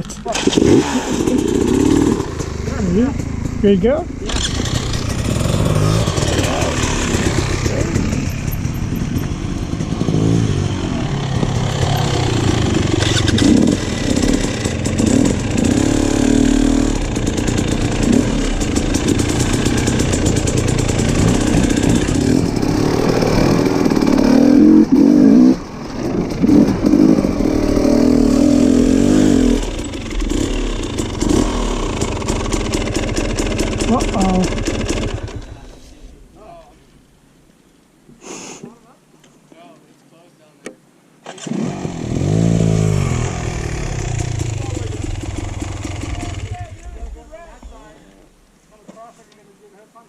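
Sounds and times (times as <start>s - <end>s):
motorcycle engine revving: 0.0s - 35.8s, 41.3s - 47.3s.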